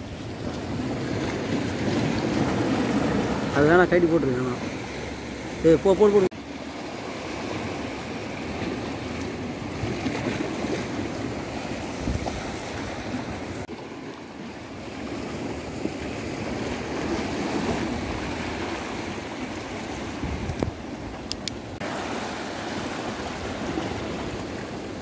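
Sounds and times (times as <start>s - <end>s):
waves washing against rocks: 0.0s - 25.0s.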